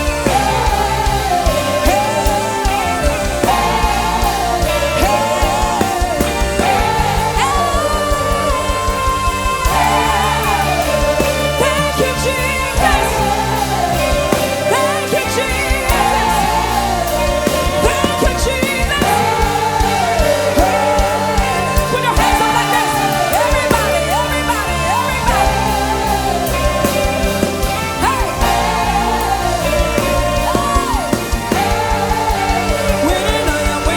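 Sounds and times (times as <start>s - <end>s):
sustained bass notes: 0.0s - 33.9s
wavering lead melody: 0.0s - 33.9s.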